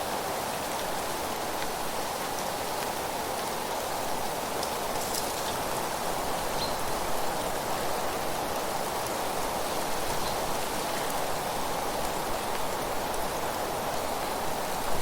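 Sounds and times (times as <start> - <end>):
wind through leaves: 0.0 - 15.0.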